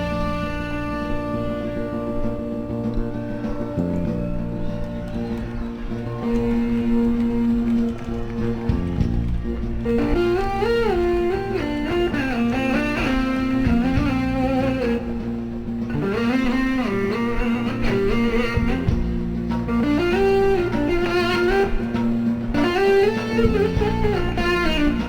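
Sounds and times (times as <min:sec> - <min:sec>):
electric slide guitar melody: 0:00.0 - 0:25.0.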